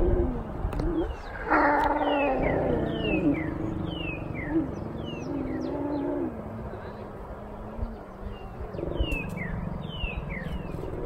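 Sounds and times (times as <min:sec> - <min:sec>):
lion call: 0:00.0 - 0:11.0.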